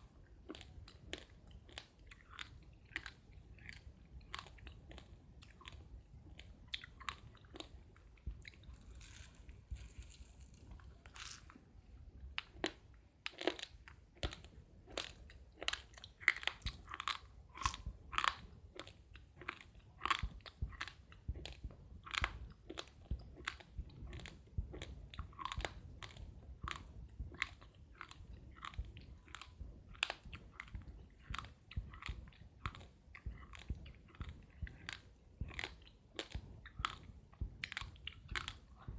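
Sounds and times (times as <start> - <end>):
chewing crunchy rice grains: 0.1 - 11.6, 12.3 - 38.9.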